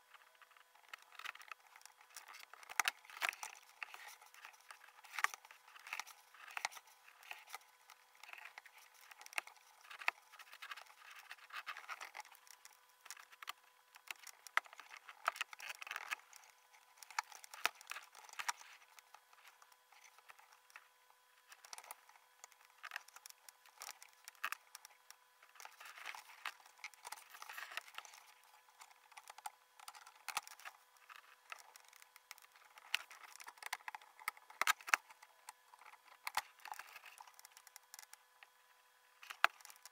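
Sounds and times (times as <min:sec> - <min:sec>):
surgical instruments clicking and scraping: 0:00.1 - 0:38.6, 0:39.2 - 0:39.9.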